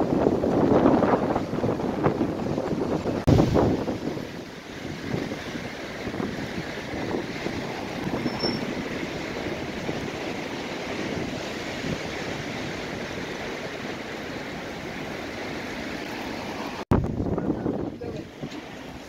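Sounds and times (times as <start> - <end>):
strong wind gusting: 0.0 - 19.0
wind buffeting microphone: 0.0 - 19.0.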